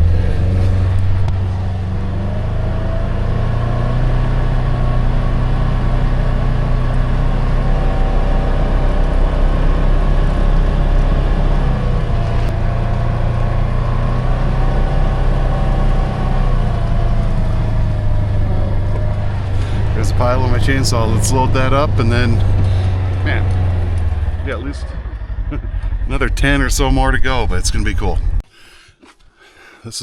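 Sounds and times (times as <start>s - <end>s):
vehicle engine running: 0.0s - 28.4s.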